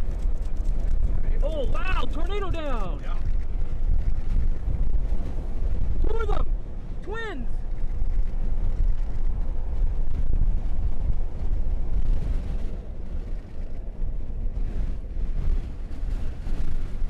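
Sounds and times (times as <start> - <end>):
truck road noise: 0.0 - 17.0
wind buffeting: 0.0 - 17.0.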